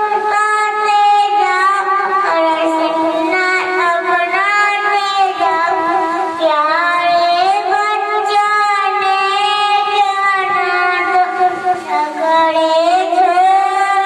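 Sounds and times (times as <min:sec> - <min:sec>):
boy singing unaccompanied: 0:00.0 - 0:14.0.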